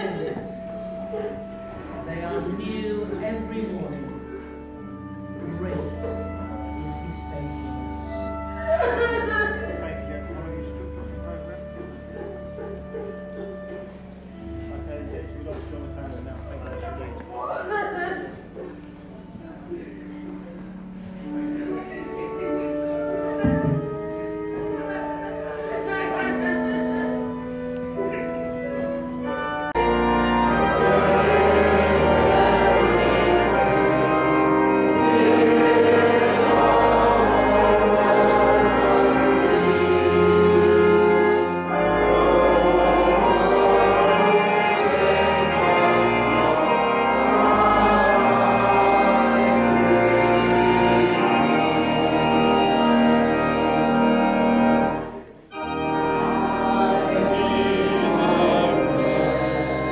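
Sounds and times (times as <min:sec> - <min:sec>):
low sustained organ bass: 0:00.0 - 0:59.9
organ chords: 0:00.0 - 0:59.9.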